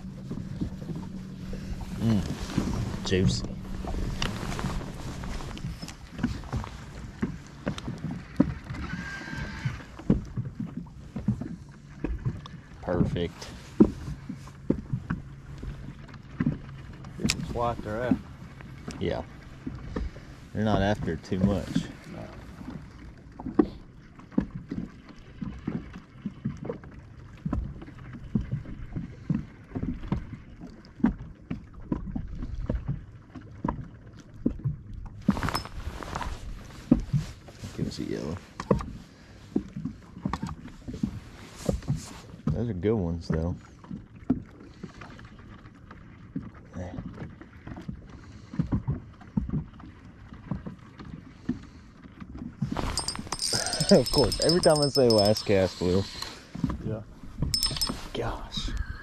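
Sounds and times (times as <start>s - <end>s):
small waves lapping against hull: 0.0s - 53.1s, 54.0s - 59.0s.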